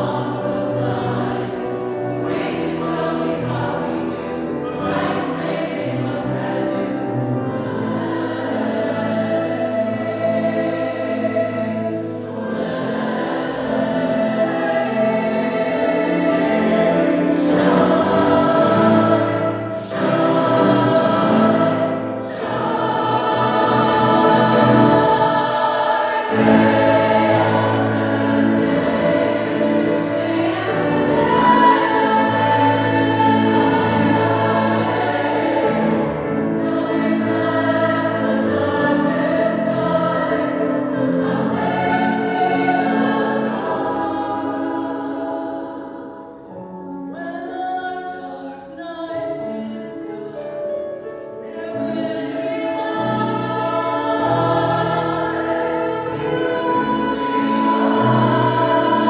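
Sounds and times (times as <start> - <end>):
mixed chorus singing: 0.0 - 59.0.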